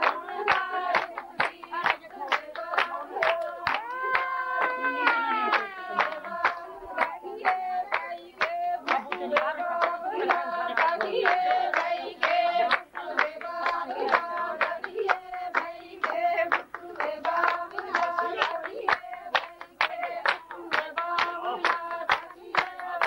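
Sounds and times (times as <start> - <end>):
rhythmic hand clapping: 0.0 - 23.0
women singing: 0.0 - 23.0.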